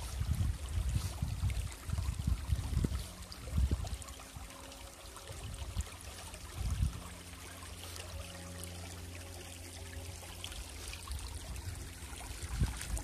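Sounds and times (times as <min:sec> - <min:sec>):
creek trickling over rocks: 0:00.0 - 0:13.0.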